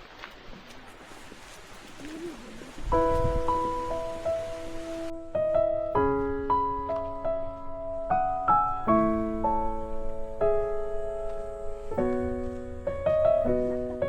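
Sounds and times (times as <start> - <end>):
gentle piano melody: 2.1 - 14.0.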